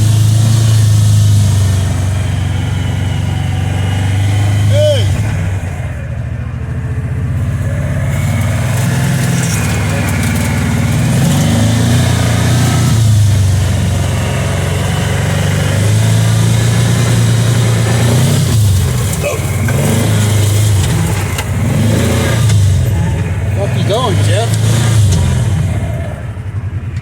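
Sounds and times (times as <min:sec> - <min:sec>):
engine revving while driving: 0:00.0 - 0:27.0
rush of driving noise: 0:00.0 - 0:27.0.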